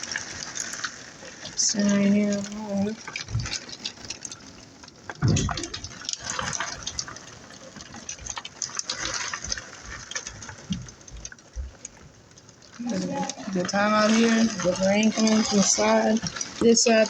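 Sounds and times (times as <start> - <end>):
heavy rain splashing: 0.0 - 17.0.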